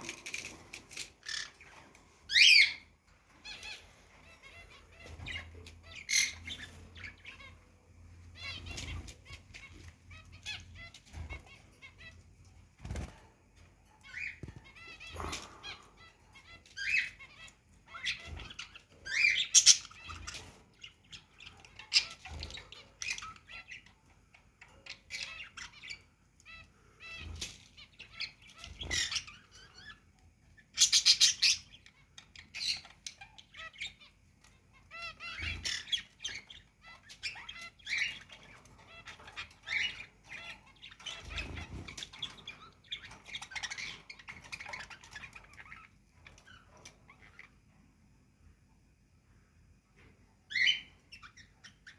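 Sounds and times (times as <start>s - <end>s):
cage birds chirping and squawking: 0.0s - 51.9s.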